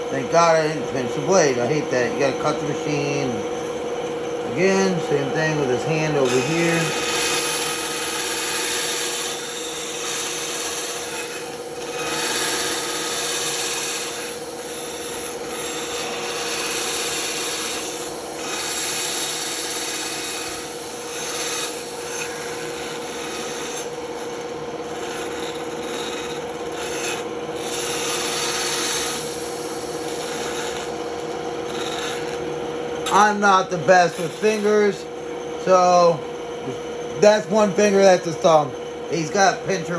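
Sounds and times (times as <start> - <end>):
band saw humming: 0.0 - 39.9
saw blade cutting wood: 4.5 - 39.9.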